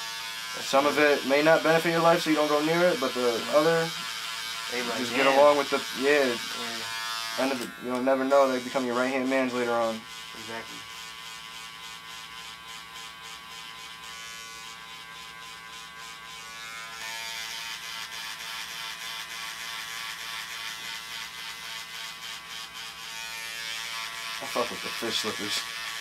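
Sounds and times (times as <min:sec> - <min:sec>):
small motor buzzing: 0:00.0 - 0:26.0.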